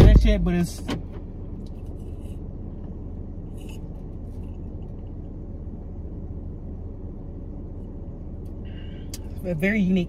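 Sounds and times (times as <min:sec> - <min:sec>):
low rumble in car cabin: 0:00.0 - 0:10.0.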